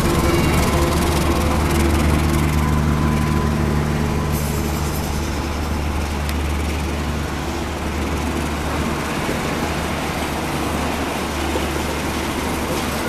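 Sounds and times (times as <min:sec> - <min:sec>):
low engine hum: 0:00.0 - 0:13.0
train wheels rumbling on rails: 0:00.0 - 0:13.0.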